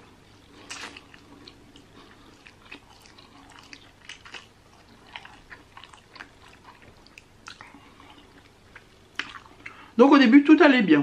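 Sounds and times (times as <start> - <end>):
wet chewing mouth sounds: 0.3 - 9.8.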